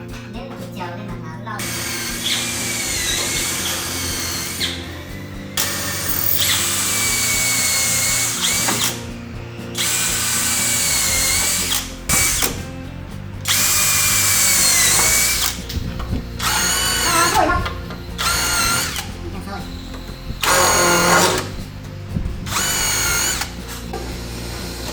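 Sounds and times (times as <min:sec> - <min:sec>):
electric power drill running: 0:01.6 - 0:12.8, 0:13.4 - 0:21.8, 0:22.4 - 0:24.9.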